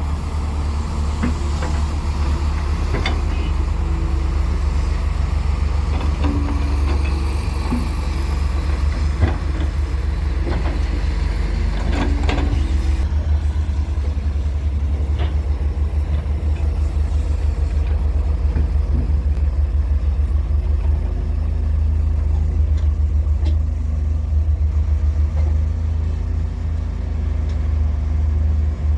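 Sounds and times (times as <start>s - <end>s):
heavy diesel engines running: 0.0s - 28.9s.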